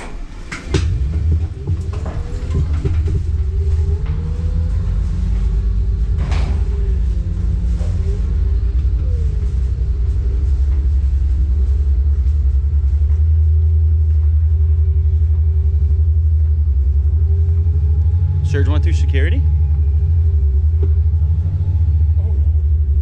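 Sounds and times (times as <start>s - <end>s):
wheelchair wheels rumbling: 0.0s - 23.0s
electric motor whine: 0.9s - 23.0s.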